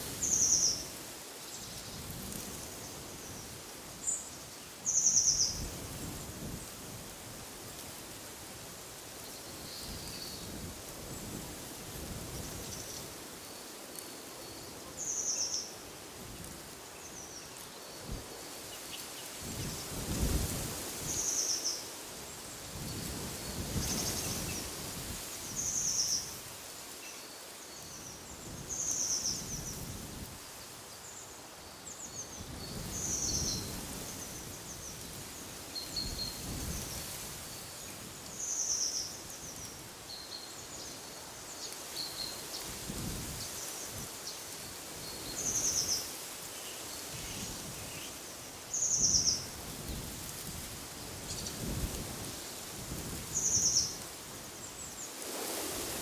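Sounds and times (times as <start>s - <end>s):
wind gusts: 0.0s - 56.0s.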